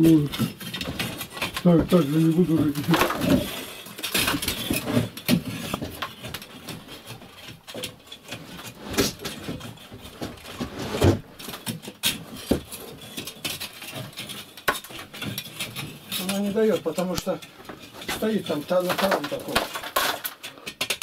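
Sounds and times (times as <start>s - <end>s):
metal poker scraping and knocking: 0.0s - 21.0s.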